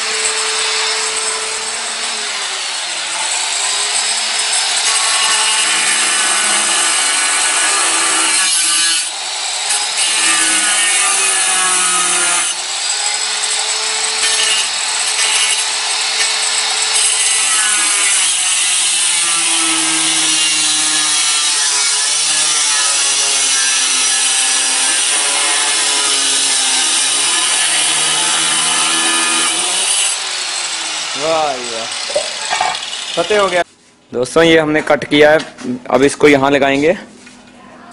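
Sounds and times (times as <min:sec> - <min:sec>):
tile cutter grinding tile: 0:00.0 - 0:33.7.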